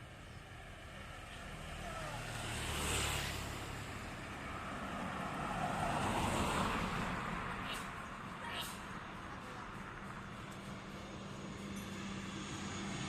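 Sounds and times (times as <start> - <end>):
passing vehicle engine: 0.0 - 13.0.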